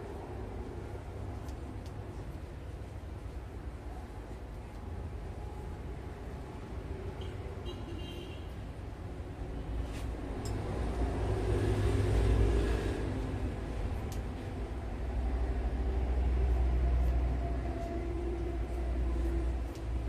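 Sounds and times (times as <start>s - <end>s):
rumble of passing traffic: 0.0s - 20.0s.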